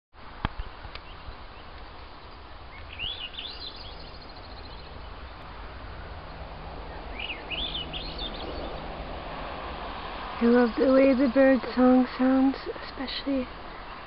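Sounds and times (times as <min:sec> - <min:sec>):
low outdoor background: 0:00.2 - 0:14.0
songbird singing: 0:00.2 - 0:14.0.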